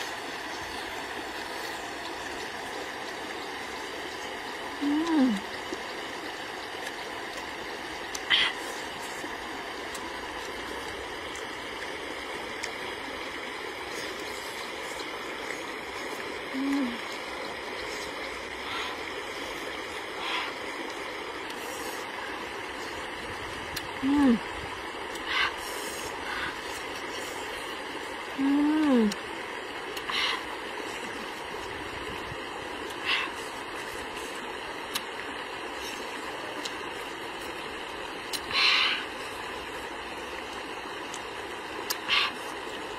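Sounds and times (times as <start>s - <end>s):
river running over rocks: 0.0s - 42.9s.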